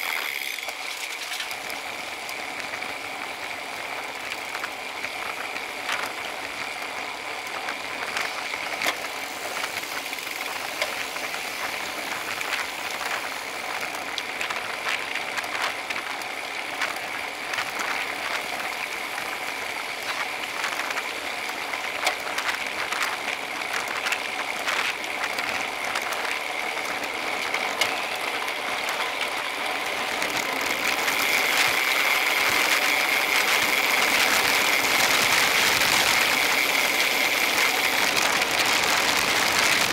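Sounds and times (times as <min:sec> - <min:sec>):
bike rattling clicks and ticks: 0:00.0 - 0:39.9
road and wind noise: 0:00.0 - 0:39.9.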